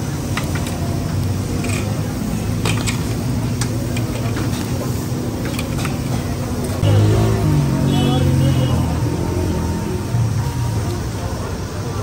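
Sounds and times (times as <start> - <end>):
low mechanical drone: 0.0 - 12.0
street background noise: 0.0 - 12.0.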